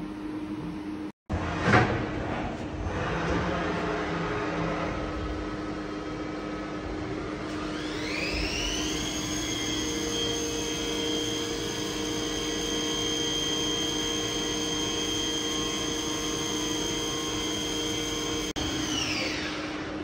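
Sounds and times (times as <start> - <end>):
steady machine hum: 0.0 - 20.0
machine spindle whine rising: 2.8 - 20.0.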